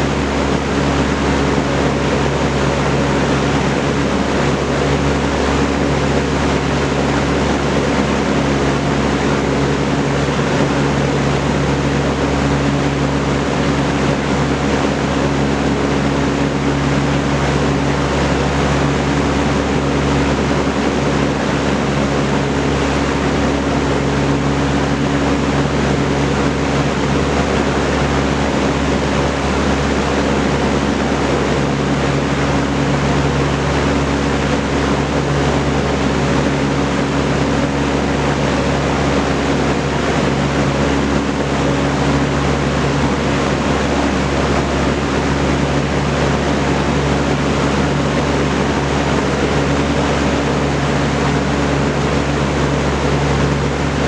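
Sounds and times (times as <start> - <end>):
box fan rushing air: 0.0 - 54.0
low motor hum: 0.0 - 54.0.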